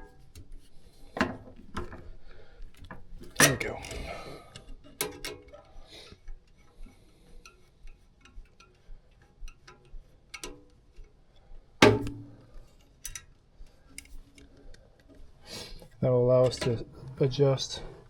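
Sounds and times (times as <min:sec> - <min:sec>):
tools clicking and tapping: 0:00.0 - 0:11.2, 0:11.8 - 0:17.0.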